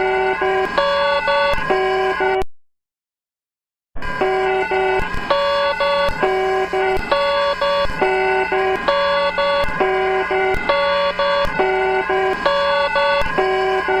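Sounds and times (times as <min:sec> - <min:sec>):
electronic emergency alarm tones: 0:00.0 - 0:02.4, 0:04.0 - 0:14.0.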